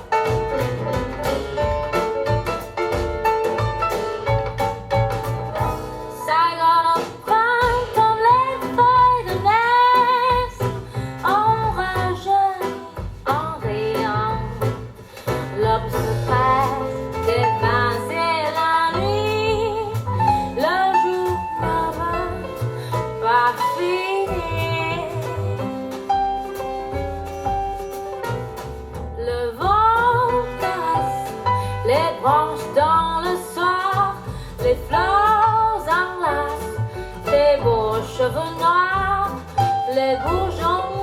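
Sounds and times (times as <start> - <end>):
sustained bass: 0.0 - 41.0.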